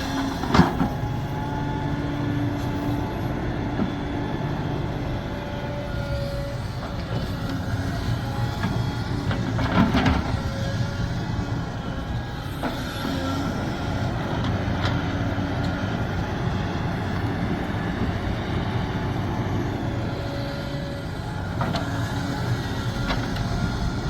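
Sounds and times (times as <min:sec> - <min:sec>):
excavator engine rumble: 0:00.0 - 0:24.0.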